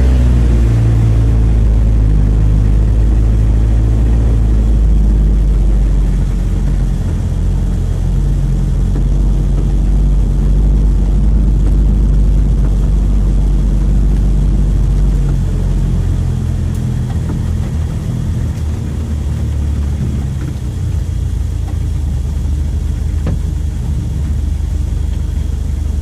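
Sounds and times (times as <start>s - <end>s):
pickup engine running: 0.0s - 26.0s.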